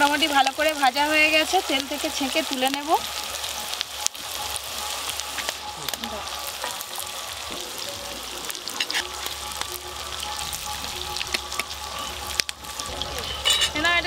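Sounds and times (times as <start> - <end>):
hot oil sizzling: 0.0 - 14.0.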